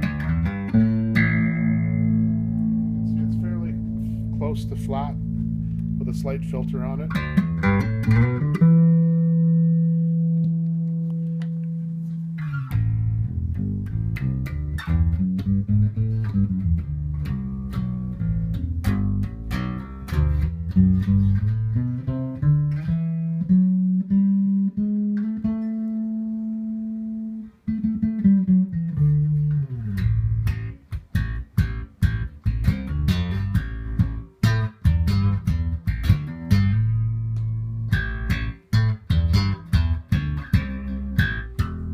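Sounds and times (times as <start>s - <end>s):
electric bass notes: 0.0s - 41.9s.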